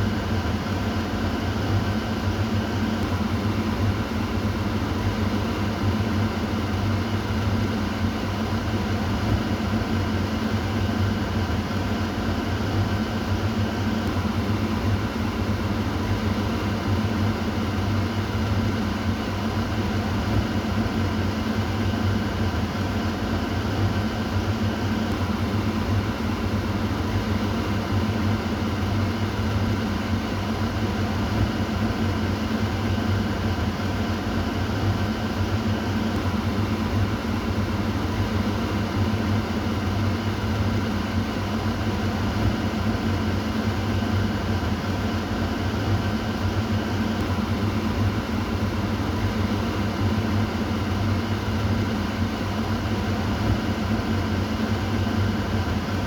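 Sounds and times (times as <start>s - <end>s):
kitchen exhaust fan humming: 0.0s - 56.0s.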